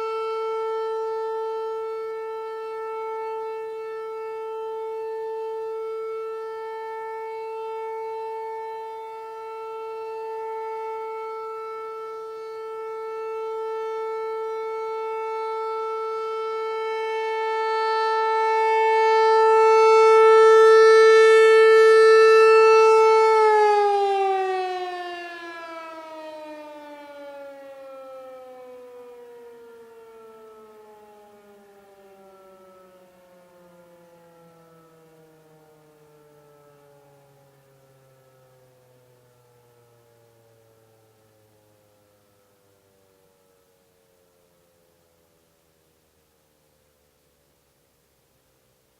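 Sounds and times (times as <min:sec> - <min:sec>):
warning siren: 0:00.0 - 0:47.9.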